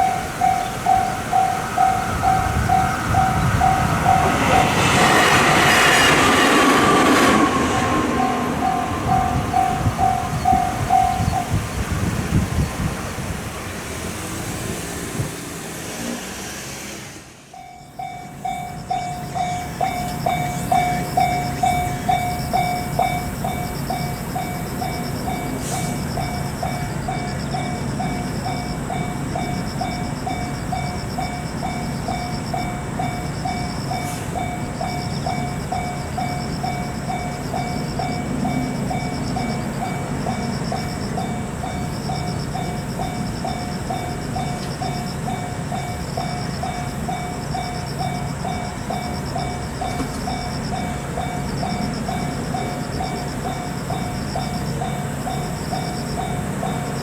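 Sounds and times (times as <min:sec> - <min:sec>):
railroad crossing warning bell: 0:00.0 - 0:16.2, 0:17.0 - 0:57.0
train rumble: 0:00.0 - 0:57.0
train running past: 0:00.0 - 0:57.0.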